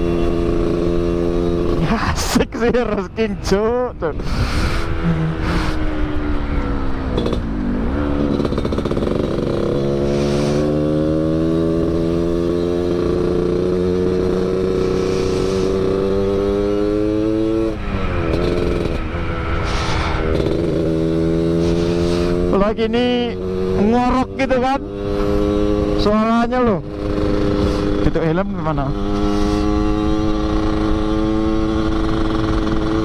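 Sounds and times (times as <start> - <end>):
motorcycle engine growling: 0.0 - 33.0.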